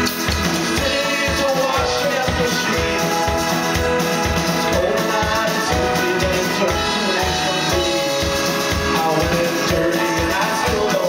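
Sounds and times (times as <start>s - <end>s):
rock band playing live: 0.0s - 11.0s.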